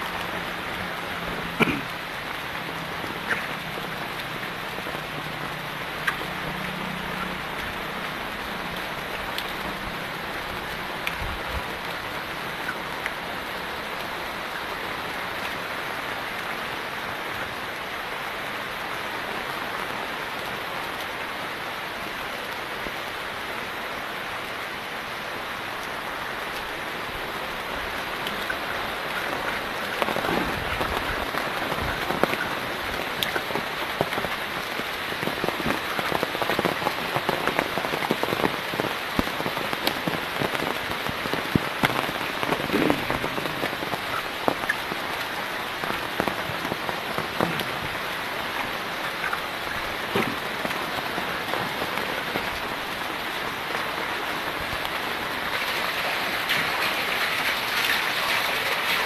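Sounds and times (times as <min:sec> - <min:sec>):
raindrops pattering and splashing: 0:00.0 - 0:59.0
steady rain falling: 0:00.0 - 0:59.0.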